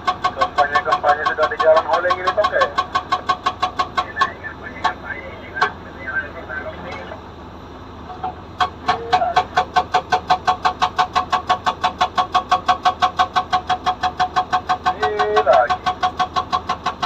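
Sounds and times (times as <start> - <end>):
hydraulic breaker hammering: 0.0 - 5.8, 8.2 - 17.0
excavator engine running: 0.0 - 17.0.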